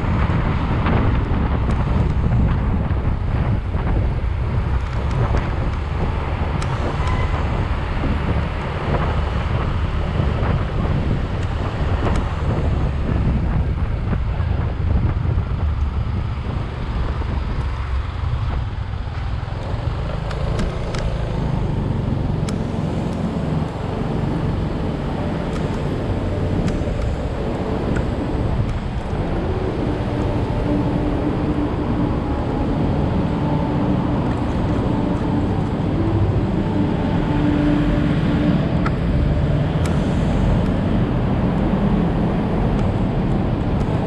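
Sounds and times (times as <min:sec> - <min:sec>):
low road rumble from tyres: 0:00.0 - 0:44.0
wind buffeting microphone: 0:00.0 - 0:44.0.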